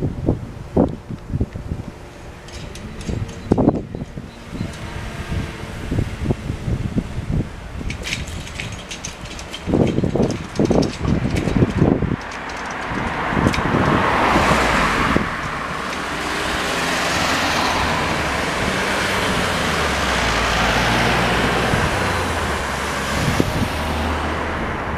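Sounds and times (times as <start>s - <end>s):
tyre noise on road: 0.0s - 24.9s
cars driving past: 1.9s - 24.9s.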